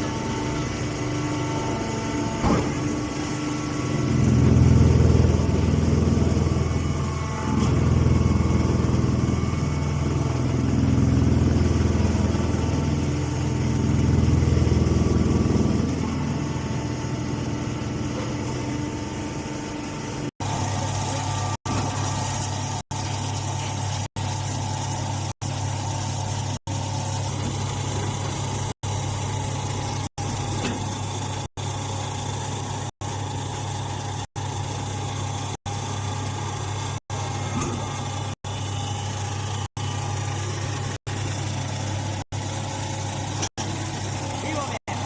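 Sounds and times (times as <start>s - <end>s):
hay baler humming and whining: 0.0s - 45.0s.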